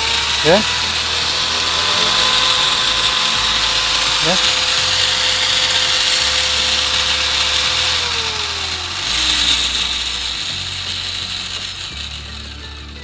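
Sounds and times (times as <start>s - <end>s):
angle grinder whining: 0.0s - 13.0s.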